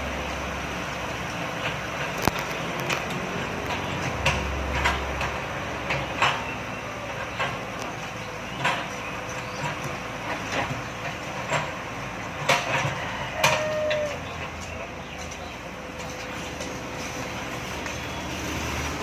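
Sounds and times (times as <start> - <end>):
excavator engine running: 0.0 - 19.0.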